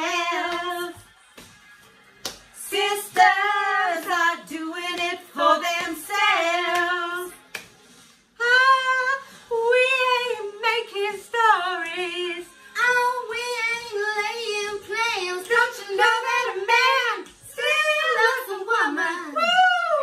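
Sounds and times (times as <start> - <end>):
women singing soul vocals: 0.0 - 1.6, 2.2 - 7.6, 8.4 - 20.0.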